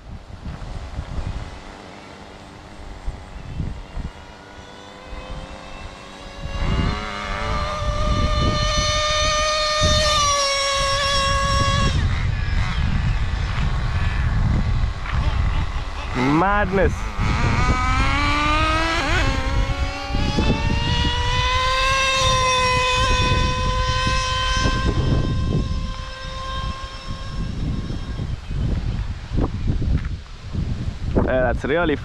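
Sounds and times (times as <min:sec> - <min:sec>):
distant model engine running: 0:00.0 - 0:29.5
wind rumbling on microphone: 0:00.0 - 0:32.0.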